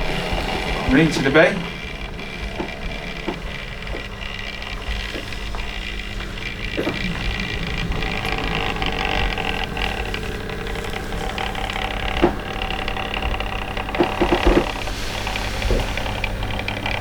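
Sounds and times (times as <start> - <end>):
clicks: 0.0 - 17.0
model locomotive motor hum: 0.0 - 17.0.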